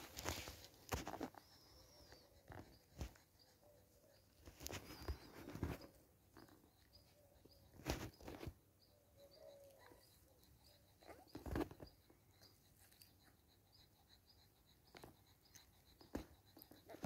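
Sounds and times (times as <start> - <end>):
faint puppy whine: 0.0 - 17.0
faint high chirps: 0.2 - 17.0.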